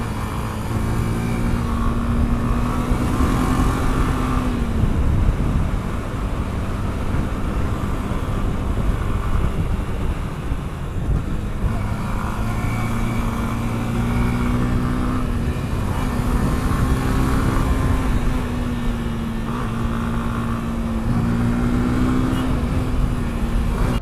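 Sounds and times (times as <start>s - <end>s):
road and wind noise: 0.0s - 24.0s
vehicle engine hum: 0.0s - 24.0s.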